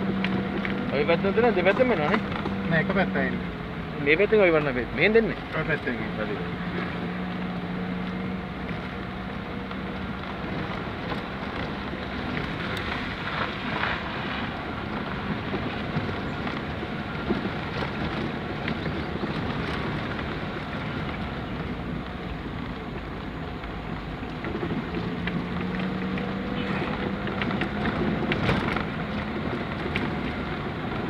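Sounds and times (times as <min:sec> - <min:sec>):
vehicle rumbling on dirt track: 0:00.0 - 0:31.0.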